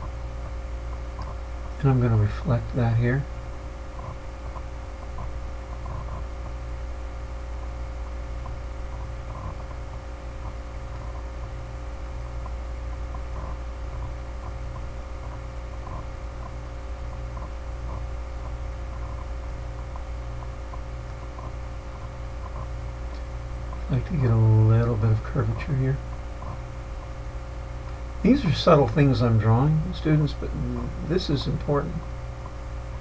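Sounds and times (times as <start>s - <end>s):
electrical hum with hiss: 0.0s - 33.0s.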